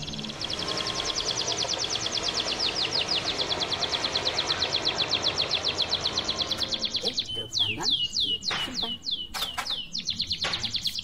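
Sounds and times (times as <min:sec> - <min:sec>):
bird singing rapid trill: 0:00.0 - 0:11.0
steady background noise: 0:00.0 - 0:11.0.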